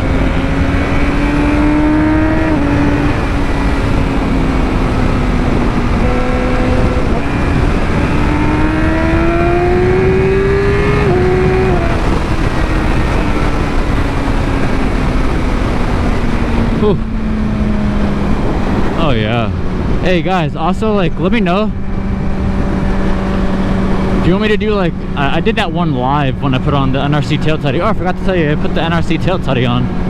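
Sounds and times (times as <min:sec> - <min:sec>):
motorcycle engine accelerating: 0:00.0 - 0:30.0
wind rush over microphone: 0:00.0 - 0:30.0.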